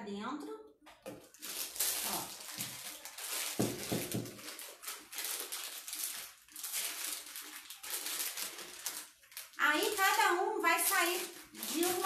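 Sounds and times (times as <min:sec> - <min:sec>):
plastic bag crinkling: 0:00.9 - 0:12.0.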